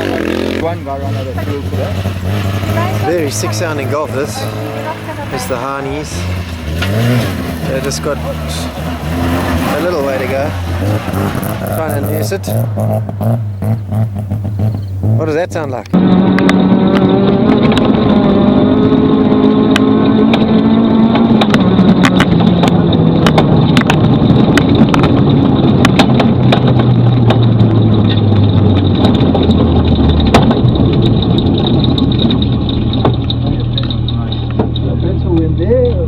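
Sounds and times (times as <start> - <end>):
sharp engine cracks: 0.0 - 18.2, 19.7 - 35.9
rough car engine running: 0.0 - 36.0.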